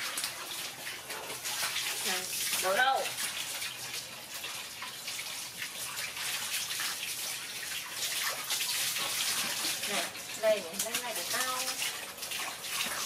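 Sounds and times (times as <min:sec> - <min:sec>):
hose water pouring into bucket: 0:00.0 - 0:13.0.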